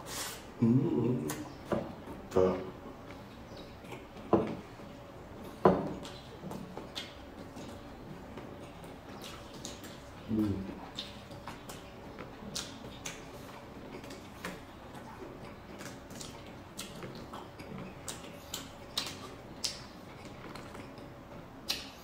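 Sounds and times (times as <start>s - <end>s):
wet chewing mouth clicks: 3.0s - 22.0s.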